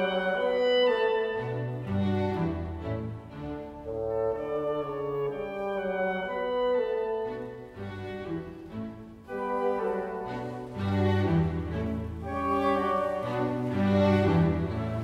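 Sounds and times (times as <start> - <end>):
instrumental music with sustained notes: 0.0 - 15.0.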